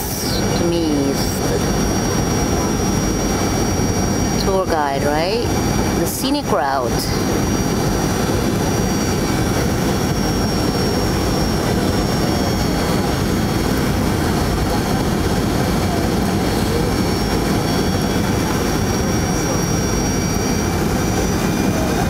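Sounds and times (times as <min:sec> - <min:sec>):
faint high whine: 0:00.0 - 0:22.0
jet engines and rushing air: 0:00.0 - 0:22.0.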